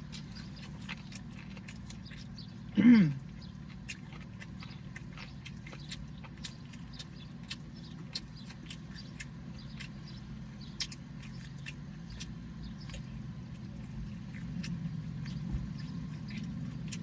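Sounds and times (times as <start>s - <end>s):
steady low hum: 0.0s - 17.0s
wet chewing with mouth clicks: 0.0s - 17.0s.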